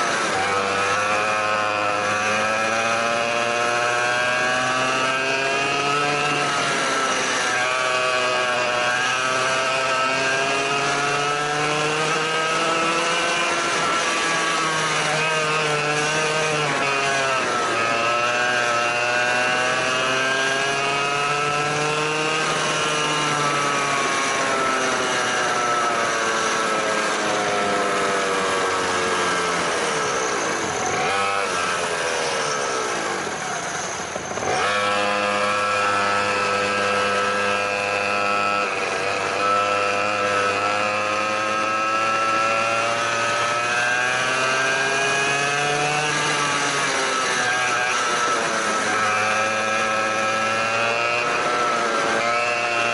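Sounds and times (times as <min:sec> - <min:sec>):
go-kart engine: 0:00.0 - 0:52.9.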